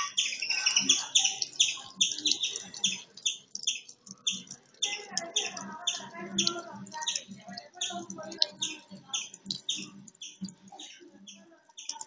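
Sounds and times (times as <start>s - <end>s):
parrot chirping: 0.0s - 12.0s.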